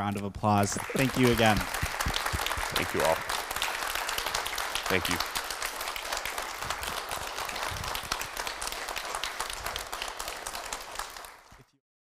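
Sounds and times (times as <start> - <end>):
audience applauding: 0.6 - 11.7.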